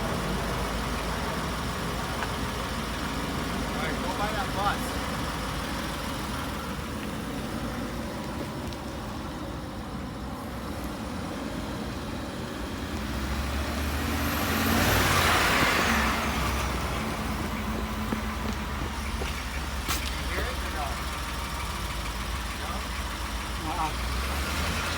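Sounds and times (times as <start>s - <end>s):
truck engine and road noise: 0.0s - 24.9s.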